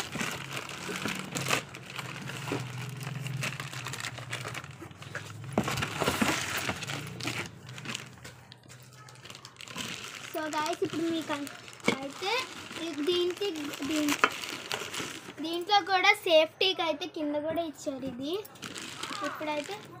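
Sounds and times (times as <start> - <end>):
plastic wrapping crinkling: 0.0 - 15.8, 18.2 - 20.0.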